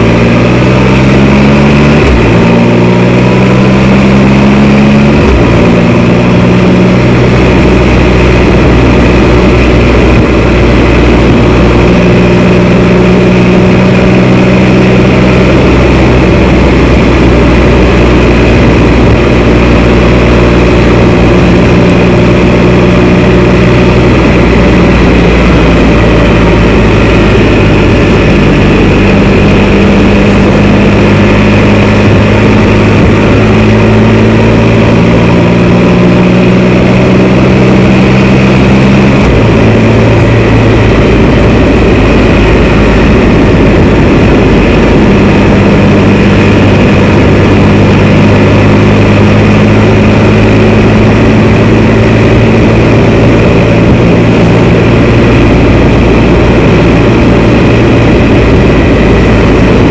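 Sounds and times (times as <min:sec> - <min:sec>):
vehicle engine running: 0:00.0 - 0:59.9
wind and road noise: 0:00.0 - 0:59.9.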